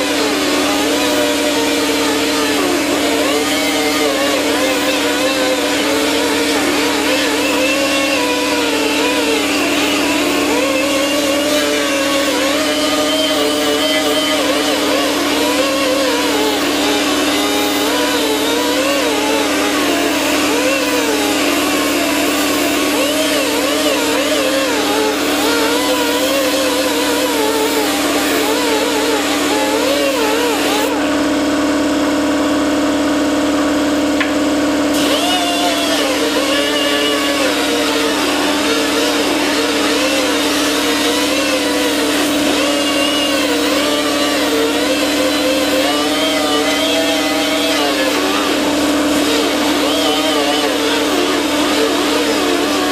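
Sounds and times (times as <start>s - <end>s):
wire wheel grinder on metal: 0.0s - 31.3s, 33.8s - 52.9s.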